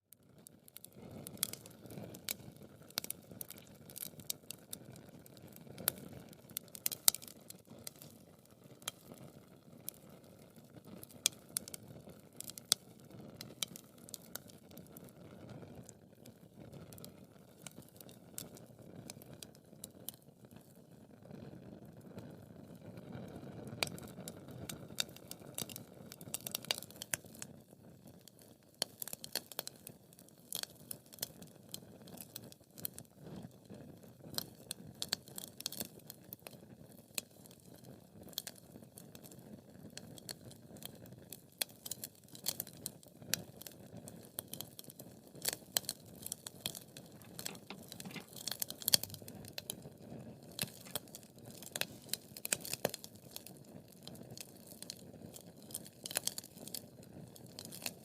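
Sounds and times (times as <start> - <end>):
crackles and pops of burning wood: 0.4 - 21.0, 21.9 - 58.0
wood fire burning: 0.4 - 21.0, 22.7 - 36.3, 36.9 - 58.0.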